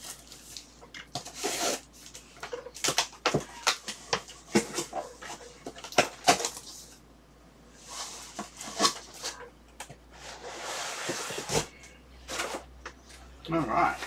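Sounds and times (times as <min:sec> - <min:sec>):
cardboard rustling and scraping: 0:00.0 - 0:07.0, 0:07.8 - 0:09.4, 0:10.1 - 0:12.7.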